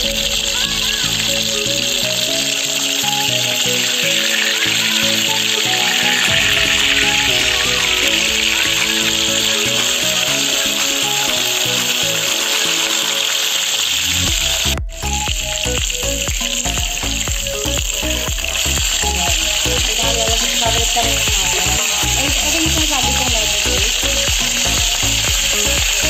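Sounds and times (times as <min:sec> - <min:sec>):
background music: 0:00.0 - 0:26.0
chicken sizzling in oil: 0:00.0 - 0:26.0.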